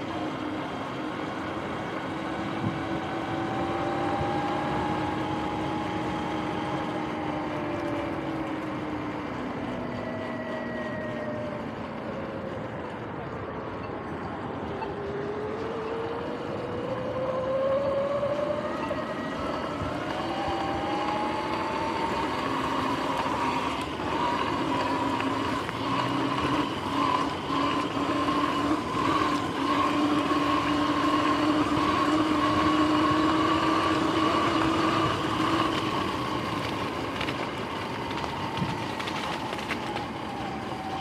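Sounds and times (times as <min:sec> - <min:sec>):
electric motor whining: 0:00.0 - 0:41.0
tyre and wind noise: 0:00.0 - 0:41.0.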